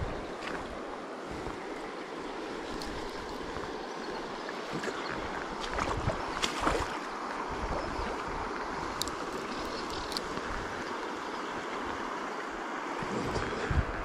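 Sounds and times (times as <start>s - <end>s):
wind rumbling on microphone: 0.0s - 12.2s, 12.9s - 14.0s.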